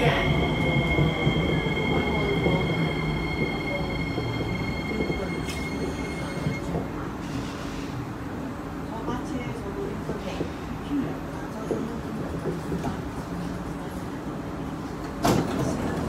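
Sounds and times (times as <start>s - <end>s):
train wheels and motors rumbling: 0.0s - 16.0s.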